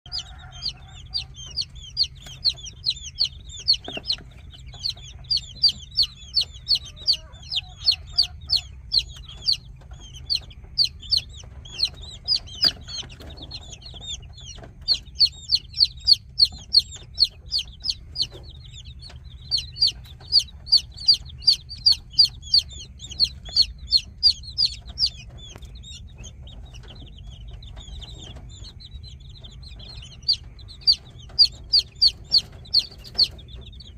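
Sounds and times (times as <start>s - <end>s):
baby chicks peeping: 0.0s - 33.9s
low steady hum: 0.1s - 33.9s.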